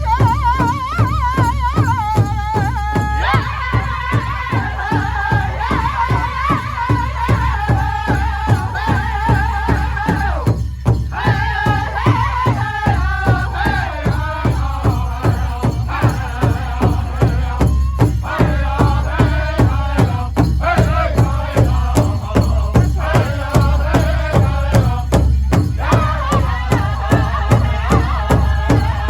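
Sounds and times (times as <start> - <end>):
big drum steady beat: 0.0 - 29.0
men chanting together: 3.2 - 29.0.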